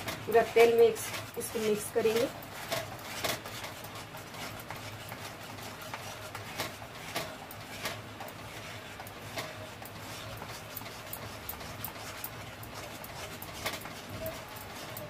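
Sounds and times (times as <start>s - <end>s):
metal spoon scraping a pan: 0.0s - 15.0s
paste sizzling in oil: 0.0s - 15.0s.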